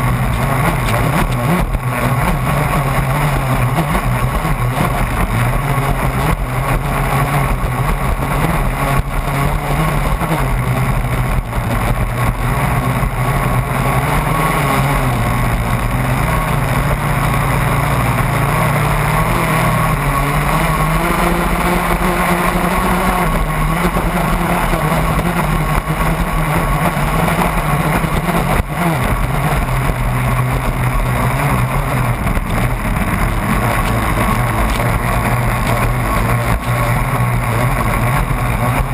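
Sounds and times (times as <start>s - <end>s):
model boat engine running: 0.0s - 38.9s.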